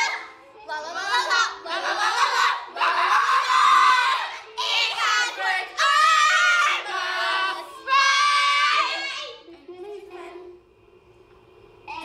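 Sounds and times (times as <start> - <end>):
girls singing together: 0.0 - 10.1.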